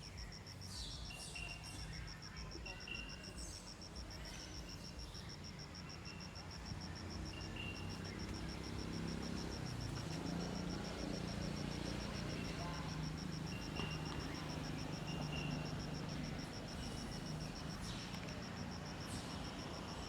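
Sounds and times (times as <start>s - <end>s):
rapid pulsing insect chirp: 0.0s - 20.0s.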